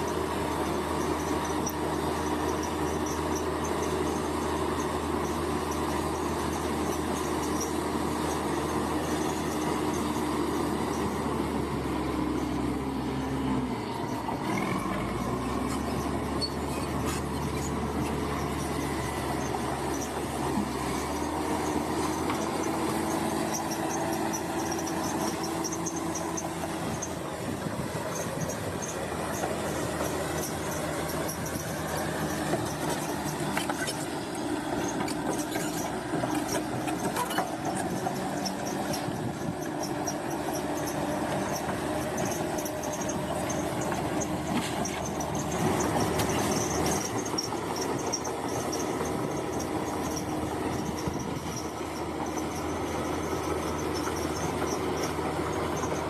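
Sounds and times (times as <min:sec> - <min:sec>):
bulldozer diesel engine: 0:00.0 - 0:56.0
steel tracks squealing and clanking: 0:00.0 - 0:56.0.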